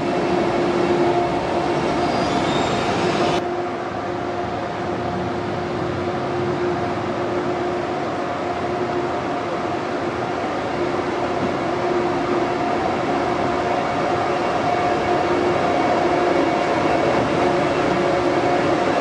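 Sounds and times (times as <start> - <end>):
train humming with held tones: 0.0 - 19.0.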